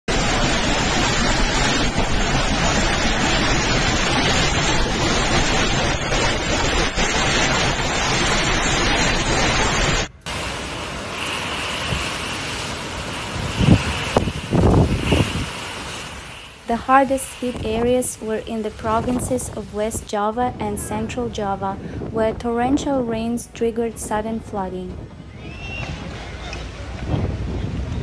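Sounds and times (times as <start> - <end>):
heavy rain: 0.0 - 28.0
storm wind: 0.0 - 28.0
wind buffeting microphone: 0.1 - 28.0.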